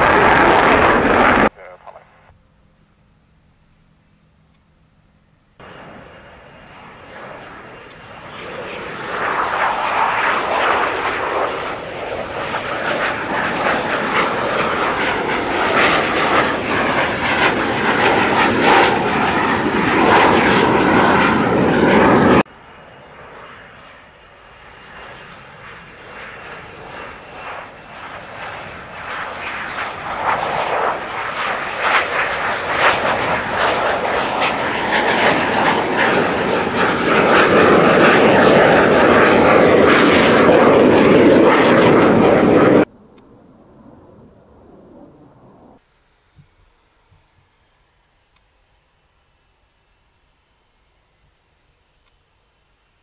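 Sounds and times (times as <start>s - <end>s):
jet engine roar: 0.0s - 2.3s, 5.6s - 48.2s.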